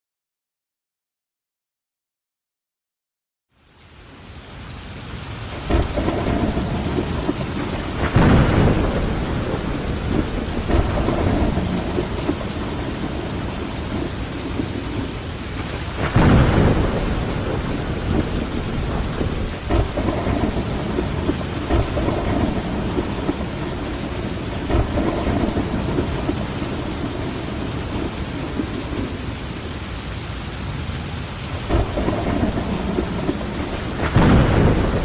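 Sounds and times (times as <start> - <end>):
rain pattering on window: 3.5 - 35.0
thunder rumbling: 5.2 - 35.0.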